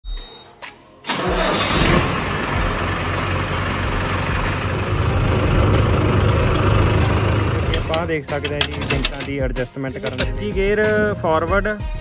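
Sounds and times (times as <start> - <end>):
diesel tractor engine starting: 1.1 - 11.2.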